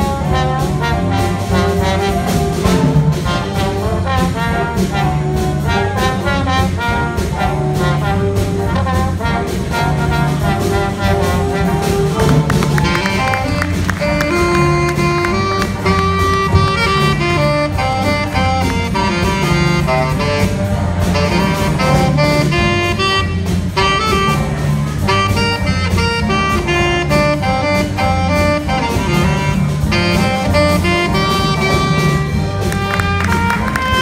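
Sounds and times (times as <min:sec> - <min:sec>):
big band swing music: 0:00.0 - 0:34.0
saxophone solo: 0:00.0 - 0:34.0
trumpet solo: 0:00.0 - 0:34.0.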